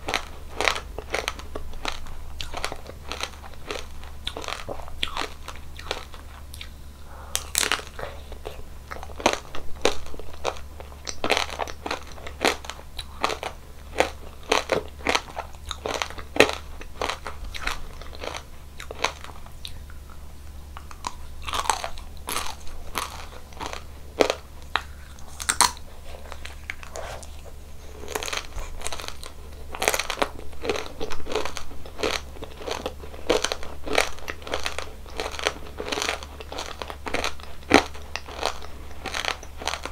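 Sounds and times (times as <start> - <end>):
crunchy ice cream chewing: 0.0 - 39.9.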